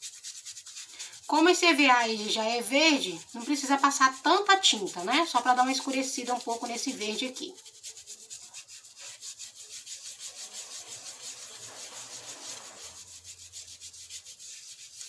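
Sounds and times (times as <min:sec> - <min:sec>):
paint applicator scrubbing stencil: 0:00.0 - 0:15.0.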